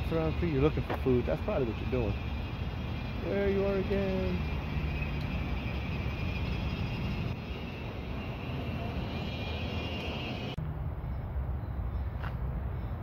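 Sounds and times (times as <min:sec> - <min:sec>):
high hiss: 0:00.0 - 0:10.6
distant engine rumble: 0:00.0 - 0:12.8.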